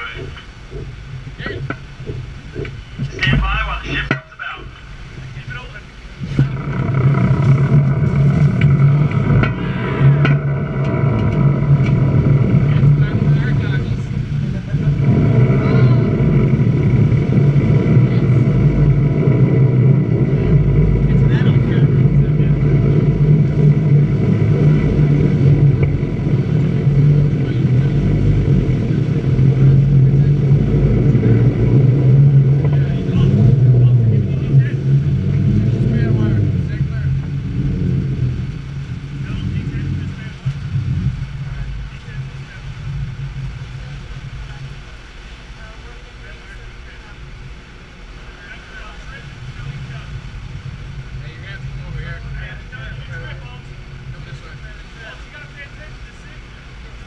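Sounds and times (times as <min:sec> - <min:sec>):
low mechanical hum: 0:00.0 - 0:57.0
wind and sea rushing: 0:00.0 - 0:57.0.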